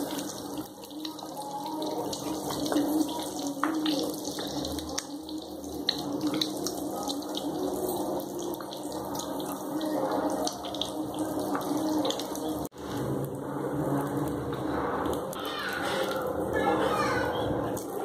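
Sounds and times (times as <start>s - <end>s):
oil sizzling with pops: 0.0s - 16.5s.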